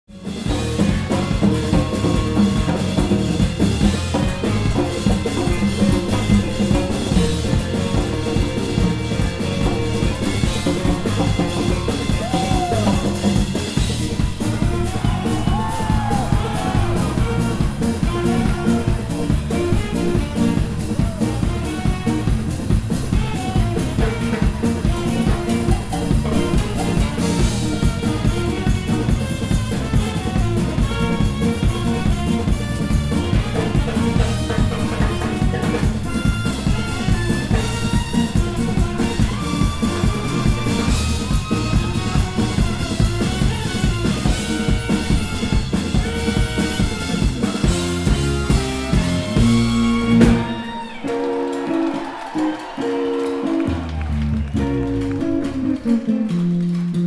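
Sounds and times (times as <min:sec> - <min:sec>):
guitar: 0:00.0 - 0:57.0
trumpets and trombone: 0:00.1 - 0:54.1
congas: 0:00.1 - 0:57.0
drum kit: 0:00.1 - 0:57.0
funk band playing: 0:00.1 - 0:57.0.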